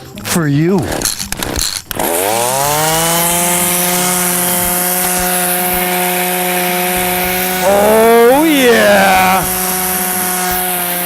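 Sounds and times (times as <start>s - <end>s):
chainsaw engine revving: 0.8s - 11.0s.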